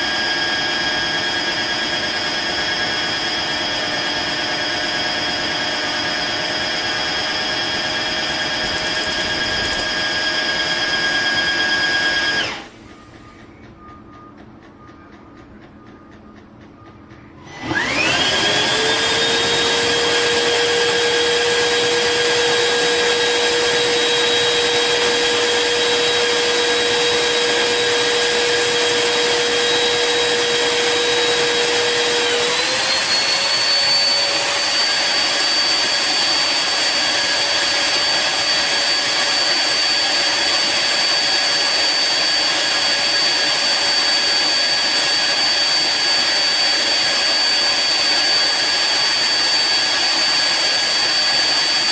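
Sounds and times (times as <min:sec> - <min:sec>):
vacuum motor whining: 0:00.0 - 0:14.0, 0:17.4 - 0:51.9.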